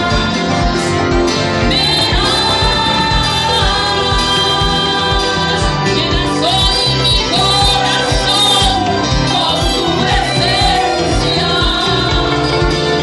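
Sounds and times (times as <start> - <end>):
worship song vocals: 0.0 - 13.0
steady beat: 1.1 - 13.0.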